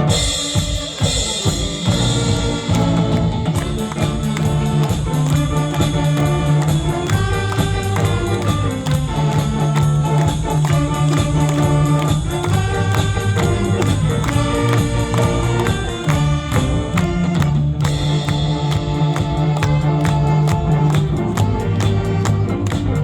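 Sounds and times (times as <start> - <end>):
saxophone band playing pop songs: 0.0 - 23.0.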